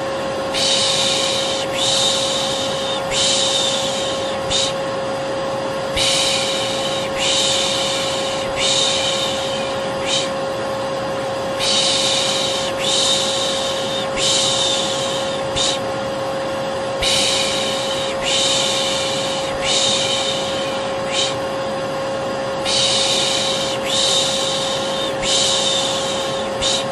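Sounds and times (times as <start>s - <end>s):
vacuum cleaner motor humming: 0.0s - 26.9s
person shushing: 0.6s - 4.8s, 6.0s - 10.4s, 11.6s - 15.9s, 17.0s - 21.5s, 22.6s - 26.9s.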